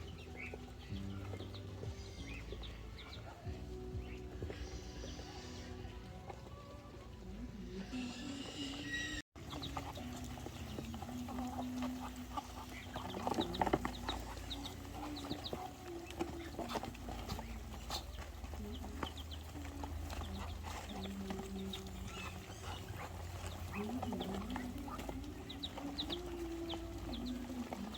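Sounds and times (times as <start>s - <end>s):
chickens clucking: 0.0s - 27.9s
high chick chirps: 0.0s - 27.9s.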